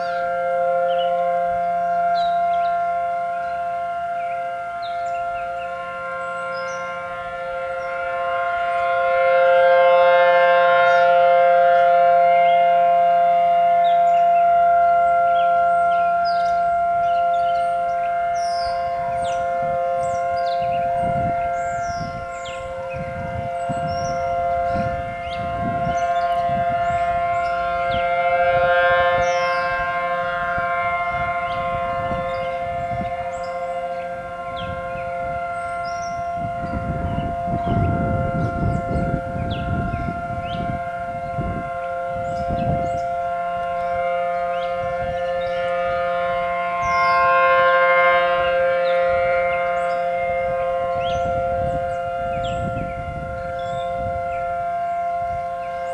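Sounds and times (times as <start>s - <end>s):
birds chirping: 0.0s - 55.9s
warning siren steady tone: 0.0s - 55.9s.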